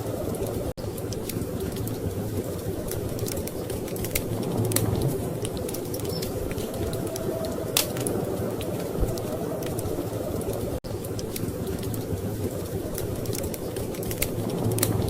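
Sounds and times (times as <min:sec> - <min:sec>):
low rumble of storm wind: 0:00.0 - 0:15.0
wood fire crackling and popping: 0:00.0 - 0:15.0.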